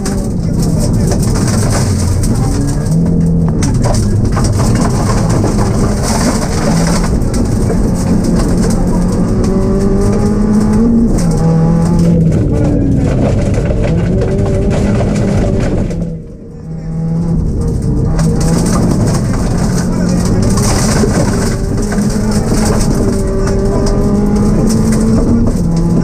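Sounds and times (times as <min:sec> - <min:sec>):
rally car engine revving: 0:00.0 - 0:26.0
road and tyre noise: 0:00.0 - 0:26.0.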